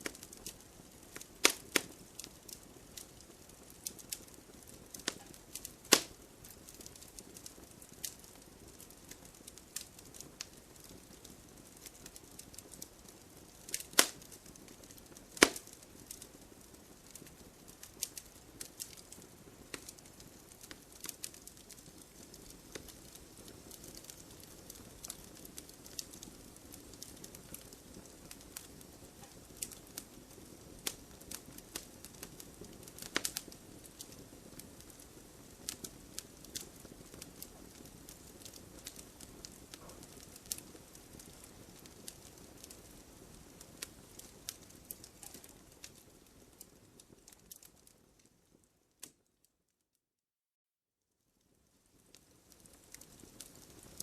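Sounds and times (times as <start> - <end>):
loud fire pops: 0.0 - 47.9
firewood crackling: 0.0 - 49.3, 51.7 - 54.0.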